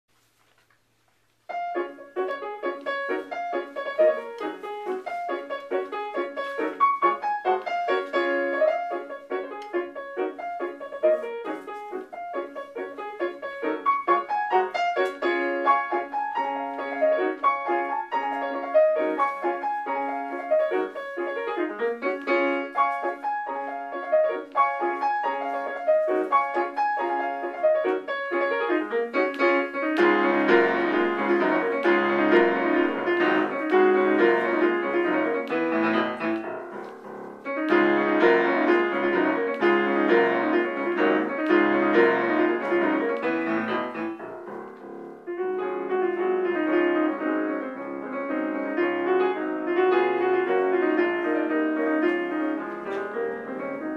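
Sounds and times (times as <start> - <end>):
solo piano quick runs: 1.5 - 53.9.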